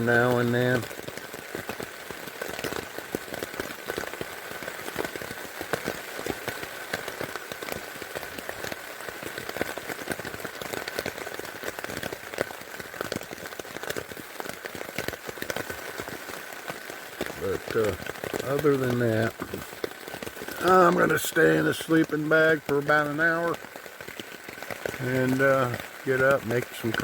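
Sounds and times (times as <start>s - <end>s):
heavy rain on a tent: 0.0s - 27.0s.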